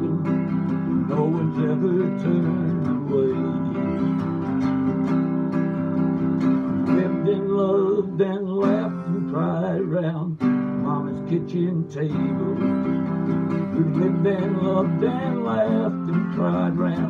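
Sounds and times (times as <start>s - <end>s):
man singing: 0.0s - 4.7s, 6.7s - 17.0s
acoustic guitar strumming: 0.0s - 17.0s.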